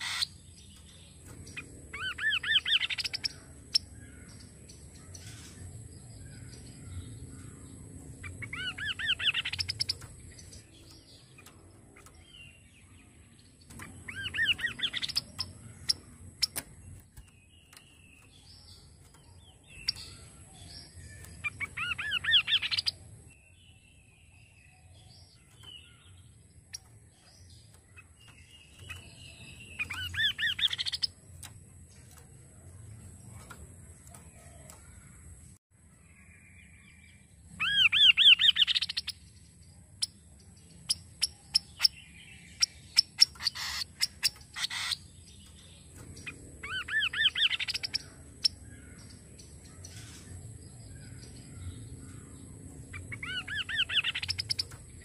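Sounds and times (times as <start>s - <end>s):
bird singing rising phrases: 0.0s - 55.0s
soft bird chirps: 0.0s - 55.0s.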